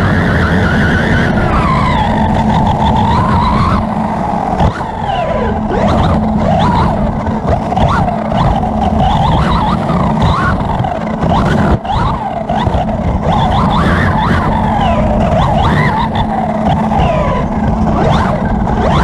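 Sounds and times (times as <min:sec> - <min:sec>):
electric motor and gear whine: 0:00.0 - 0:19.0.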